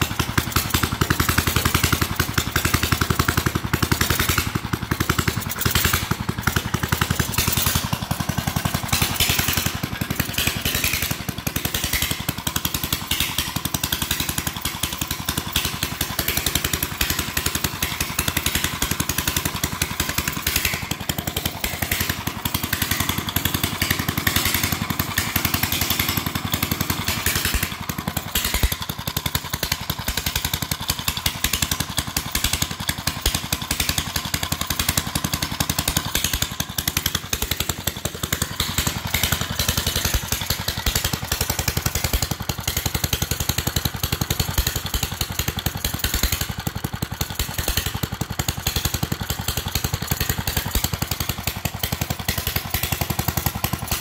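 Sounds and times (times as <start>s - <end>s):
single-cylinder engine running: 0.0s - 54.0s.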